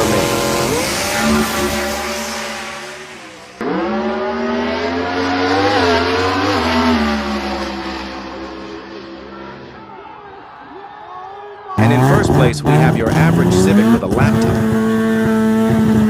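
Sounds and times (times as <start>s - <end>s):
car engine accelerating hard: 0.0s - 10.1s, 11.8s - 16.0s.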